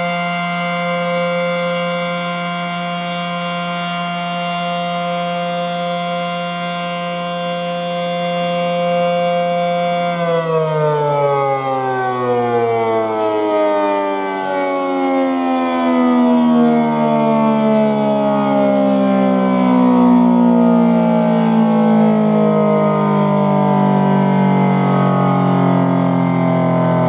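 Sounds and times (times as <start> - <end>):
warning siren winding down: 0.0 - 27.0.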